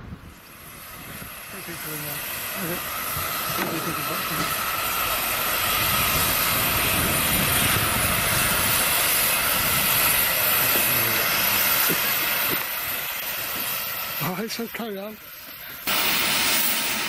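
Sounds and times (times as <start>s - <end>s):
wind buffeting microphone: 0.0s - 13.8s
steam hissing: 0.0s - 17.0s.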